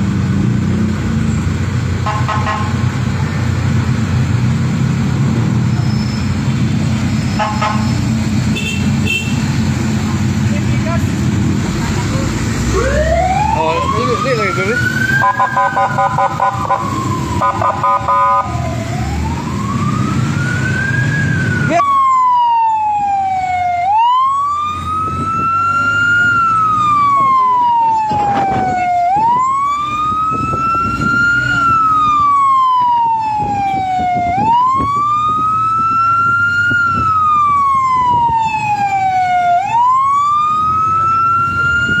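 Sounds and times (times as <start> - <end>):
truck engine and road rumble: 0.0 - 42.0
fire truck siren wailing: 1.6 - 42.0.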